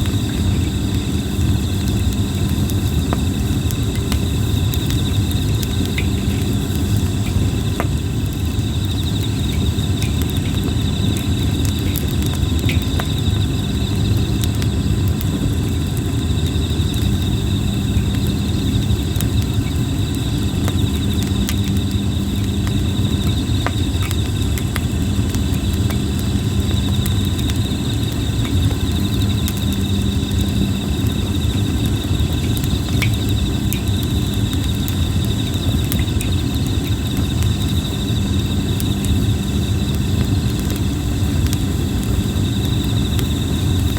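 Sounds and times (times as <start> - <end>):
pulsing insect trill: 0.0 - 43.9
wood fire crackling and popping: 0.0 - 43.9.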